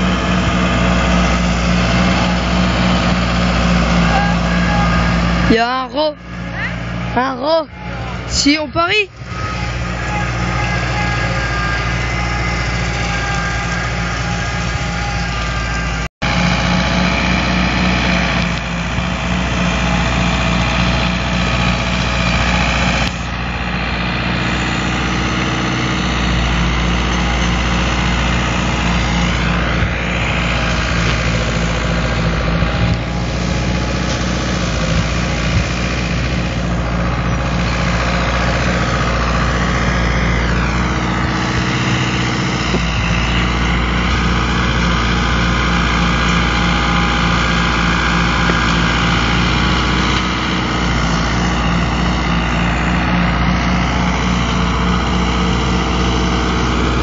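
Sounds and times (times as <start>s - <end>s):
rotary mower cutting grass: 0.0s - 57.0s
tractor diesel engine running: 0.0s - 57.0s.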